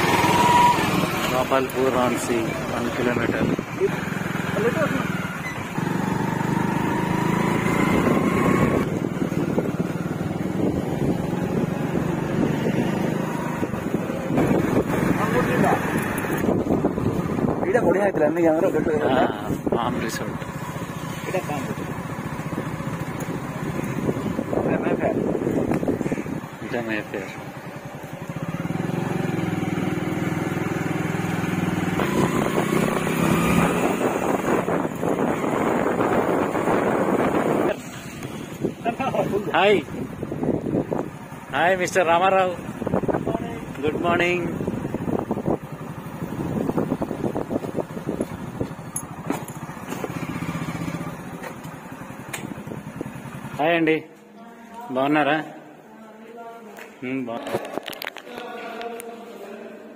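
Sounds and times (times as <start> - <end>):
vehicle engine humming: 0.0 - 54.3
road noise: 0.0 - 59.7.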